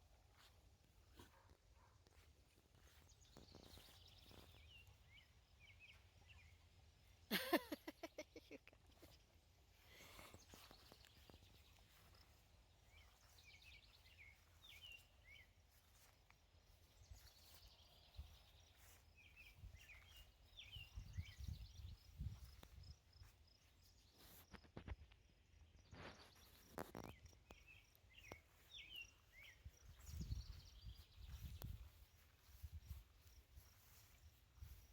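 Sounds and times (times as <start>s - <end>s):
faint bird chirping: 0.0s - 34.9s.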